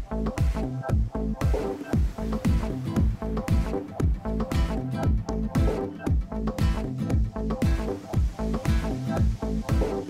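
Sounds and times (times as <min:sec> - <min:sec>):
electronic dance music: 0:00.0 - 0:10.0
kick drum: 0:00.0 - 0:10.0
pulsing synth bass: 0:00.0 - 0:10.0.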